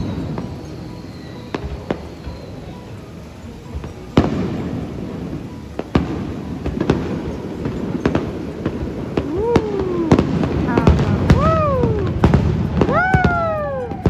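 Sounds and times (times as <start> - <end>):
fireworks bursting with sharp bangs: 0.0 - 14.0
fireworks crackling and rumble: 0.0 - 14.0.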